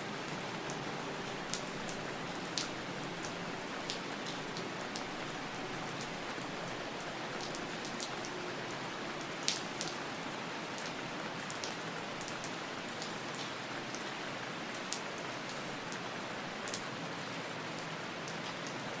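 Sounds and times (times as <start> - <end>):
steady rain hiss: 0.0 - 19.0
raindrops ticking on a surface: 0.1 - 19.0.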